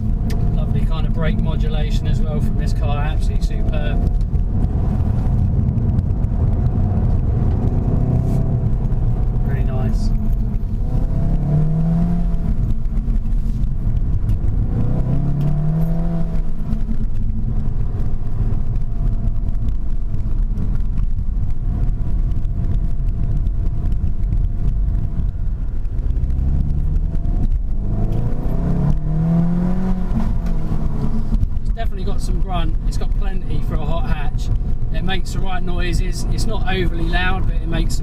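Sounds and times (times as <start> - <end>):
car engine revving: 0.0 - 38.0
low road rumble: 0.0 - 38.0.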